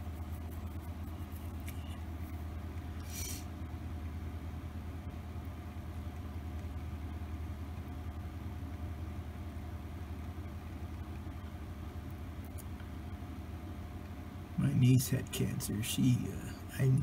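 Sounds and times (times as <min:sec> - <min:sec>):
turntable motor hum: 0:00.0 - 0:17.0.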